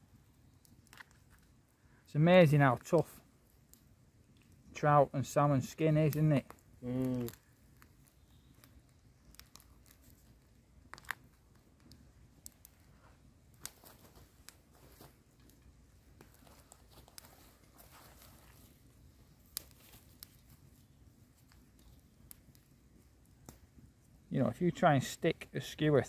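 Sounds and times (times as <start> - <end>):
small wood fire crackling: 0.0 - 26.0.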